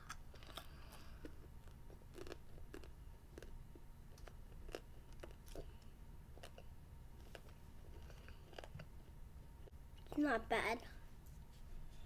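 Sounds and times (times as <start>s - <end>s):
child chewing candy: 0.0s - 10.2s.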